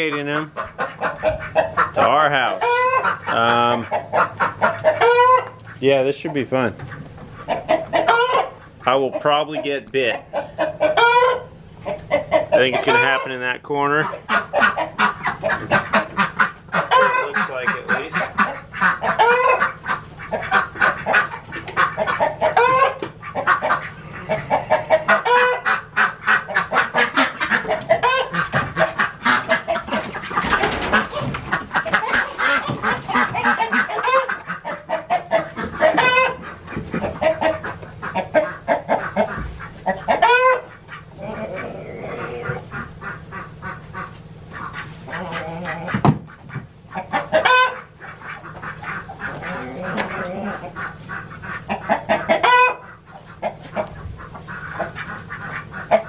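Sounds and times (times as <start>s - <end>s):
ducks quacking and honking: 0.0s - 56.0s.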